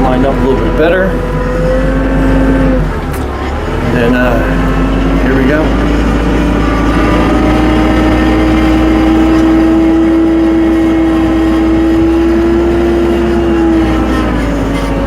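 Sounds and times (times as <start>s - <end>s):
tractor engine under power: 0.0s - 15.0s.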